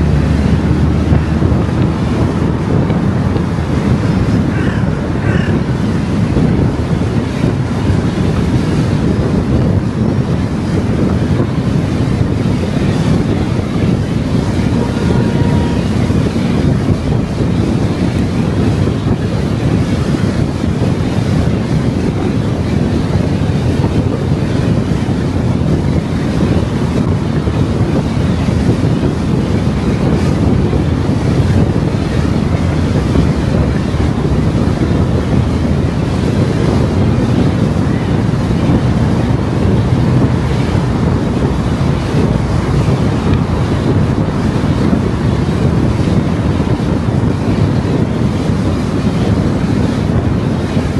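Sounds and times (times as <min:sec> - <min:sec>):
car wind and road noise: 0:00.0 - 0:50.9.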